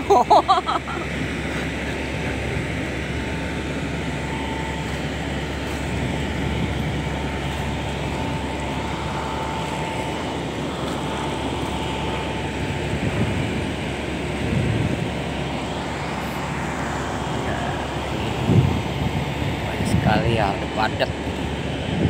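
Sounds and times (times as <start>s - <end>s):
boat hoist engine droning: 0.0s - 22.0s.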